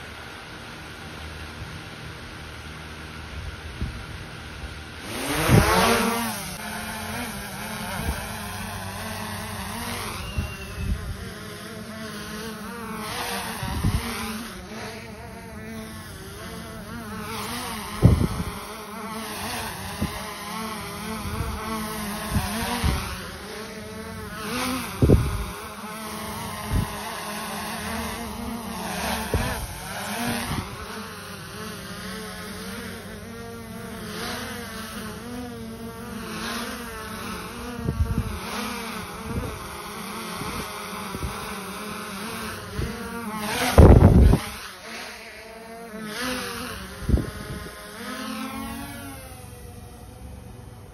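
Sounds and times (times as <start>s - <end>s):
drone motors buzzing: 0.0s - 50.9s.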